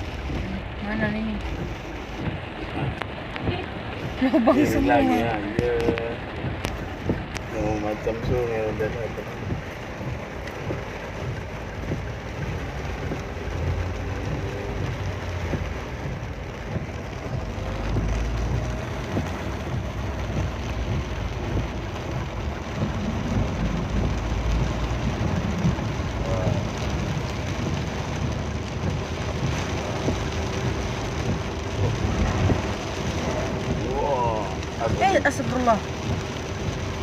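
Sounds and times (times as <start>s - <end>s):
heavy rain pouring: 0.0s - 37.0s
vehicle rumble: 0.0s - 37.0s.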